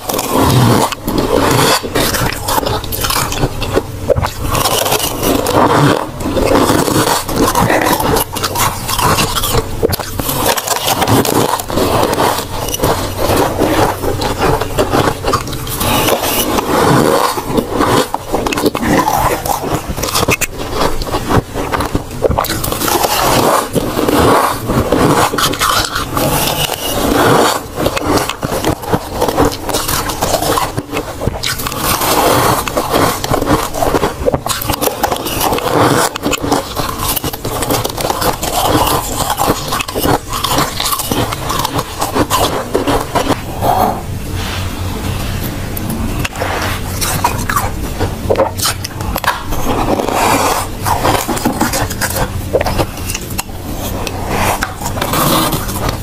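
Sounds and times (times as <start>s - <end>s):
crunching bites and chewing: 0.0s - 43.7s, 46.2s - 56.0s
metal spoon scraping frost: 0.0s - 45.3s, 46.1s - 56.0s.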